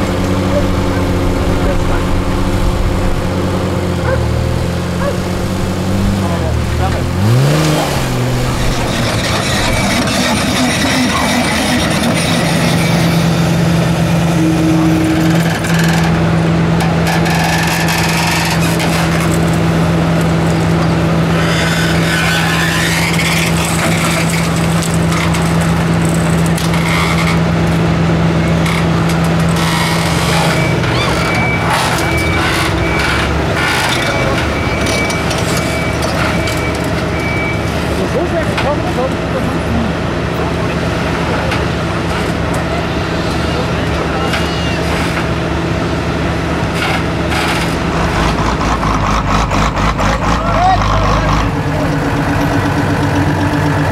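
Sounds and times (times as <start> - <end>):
heavy diesel engine drone: 0.0 - 53.9.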